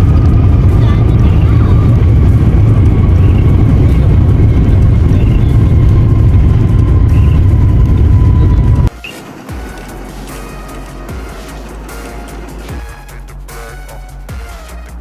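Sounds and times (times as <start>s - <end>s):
thin high whine: 0.0s - 13.0s
loud engine rumble: 0.0s - 15.0s
quiet music: 0.0s - 15.0s.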